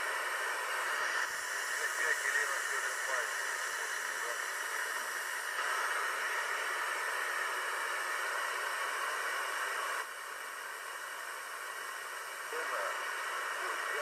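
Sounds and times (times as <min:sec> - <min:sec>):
radio receiver hiss: 0:00.0 - 0:14.0.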